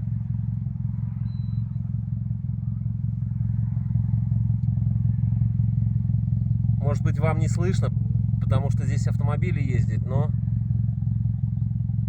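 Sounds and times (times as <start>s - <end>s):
car exhaust idling: 0.0s - 12.0s.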